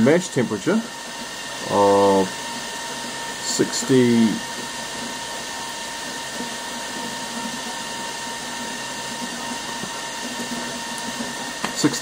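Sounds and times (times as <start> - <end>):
small water pump whirring: 0.0 - 12.0
thin steady whine: 0.0 - 12.0.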